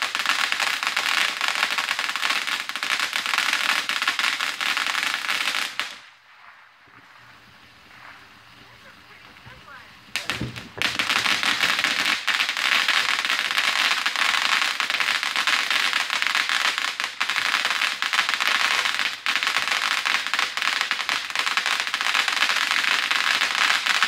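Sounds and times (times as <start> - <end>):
firework fountain crackling: 0.0 - 24.0.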